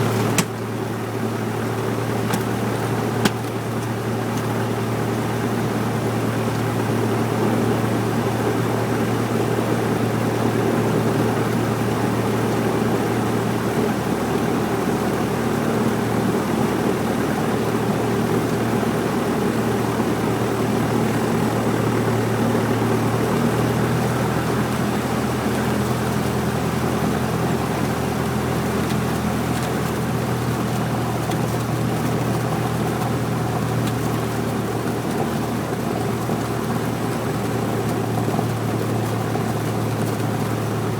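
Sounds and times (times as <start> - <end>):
propeller plane engine droning: 0.0 - 40.9.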